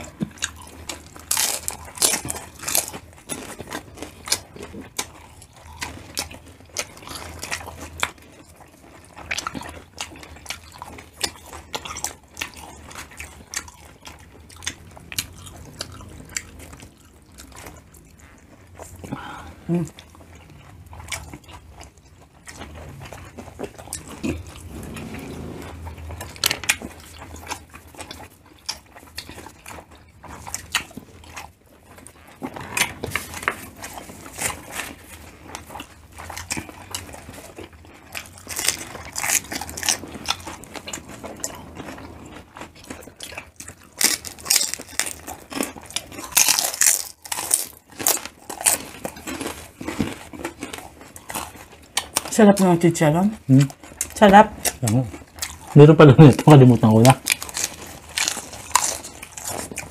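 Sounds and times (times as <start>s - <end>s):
crunchy chewing: 0.0s - 52.7s, 53.3s - 59.9s.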